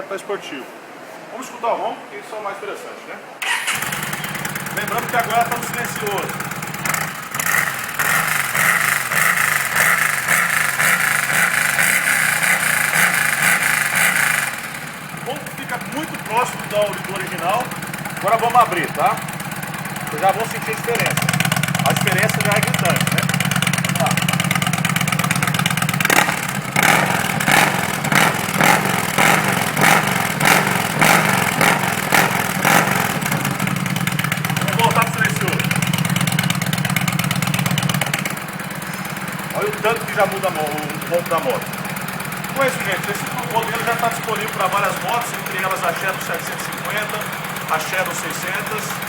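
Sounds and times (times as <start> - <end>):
motorcycle engine idling: 3.4 - 49.0.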